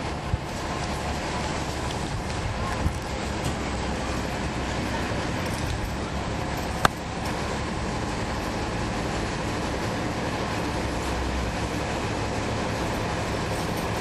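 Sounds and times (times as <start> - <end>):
bus diesel engine drone: 0.0 - 14.0
road noise: 0.0 - 14.0.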